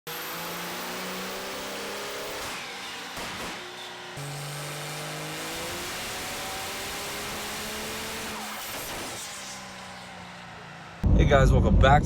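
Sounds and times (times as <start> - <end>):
diesel truck engines accelerating: 0.1 - 11.7.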